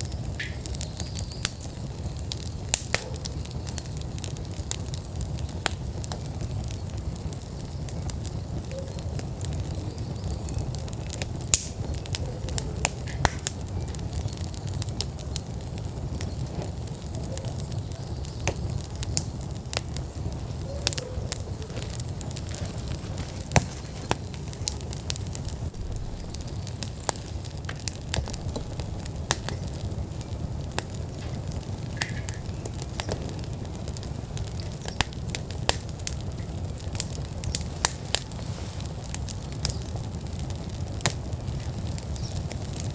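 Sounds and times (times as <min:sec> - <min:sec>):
burning logs crackling and popping: 0:00.0 - 0:42.9
fire flames rumbling: 0:00.0 - 0:42.9.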